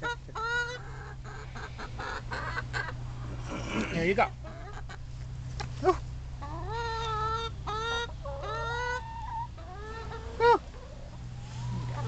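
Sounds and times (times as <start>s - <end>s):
hens calling: 0.0s - 12.0s.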